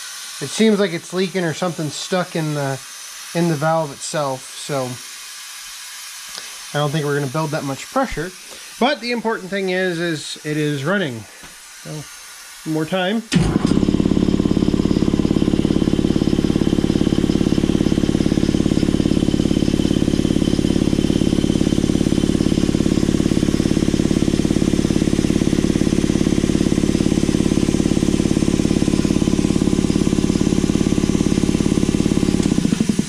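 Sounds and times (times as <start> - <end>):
air compressor pump chugging: 0.0 - 33.0
air leaking from drain valve: 0.0 - 33.0.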